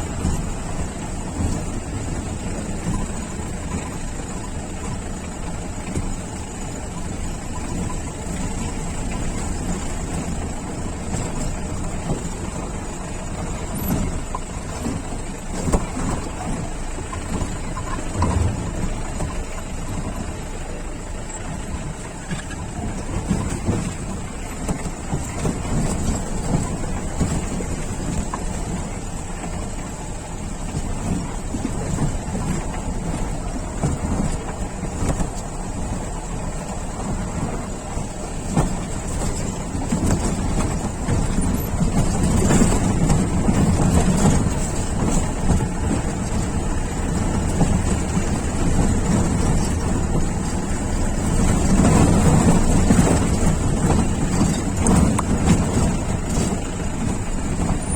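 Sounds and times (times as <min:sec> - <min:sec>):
off-road vehicle engine: 0:00.0 - 0:57.9.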